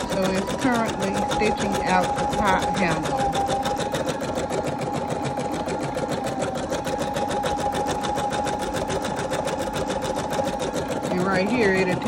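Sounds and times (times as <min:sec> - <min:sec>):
embroidery machine needle strokes: 0:00.0 - 0:12.0
steady motor hum: 0:00.0 - 0:12.0.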